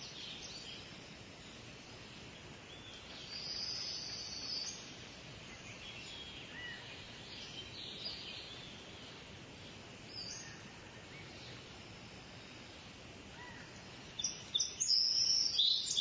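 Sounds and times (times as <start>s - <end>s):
birds chirping: 0.0s - 16.0s
steady outdoor hiss: 0.0s - 16.0s.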